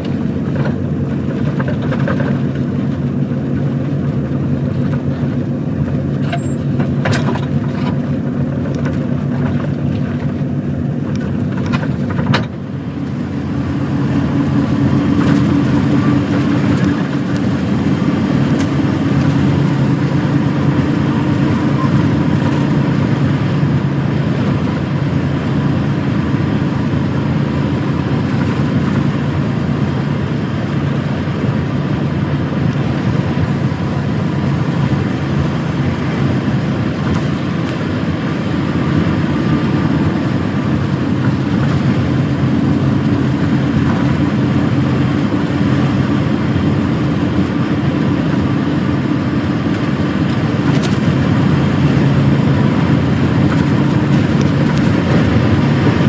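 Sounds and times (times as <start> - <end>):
truck diesel engine drone: 0.0 - 56.0
tyre and road noise: 0.0 - 56.0.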